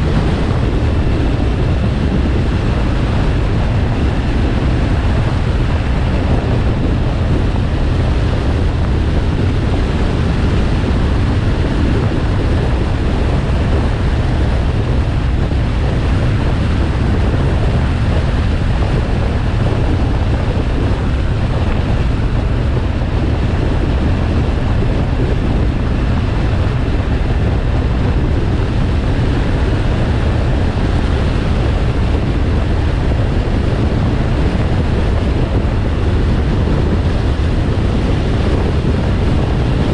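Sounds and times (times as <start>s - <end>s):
motorcycle engine rumble: 0.0s - 39.9s
wind rushing on microphone: 0.0s - 39.9s.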